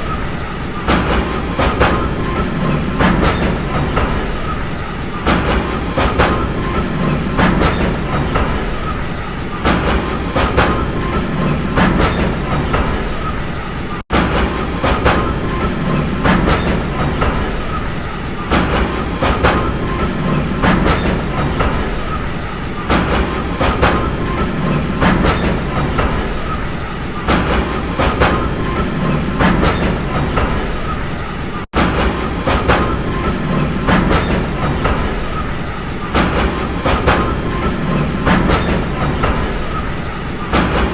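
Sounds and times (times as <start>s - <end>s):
train low rumble: 0.0s - 40.9s
train wheels clickety-clack: 0.0s - 40.9s.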